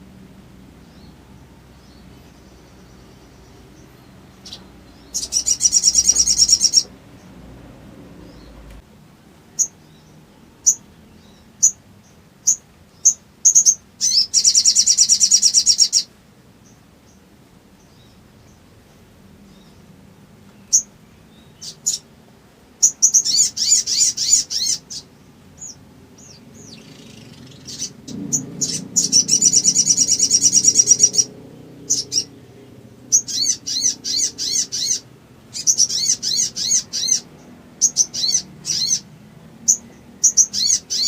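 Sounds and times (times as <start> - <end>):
songbird chirping and trilling: 0.0 - 41.0.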